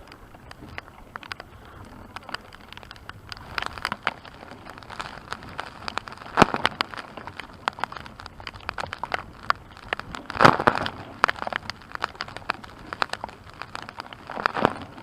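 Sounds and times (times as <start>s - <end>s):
heavy raindrops on hard surface: 0.0s - 15.0s.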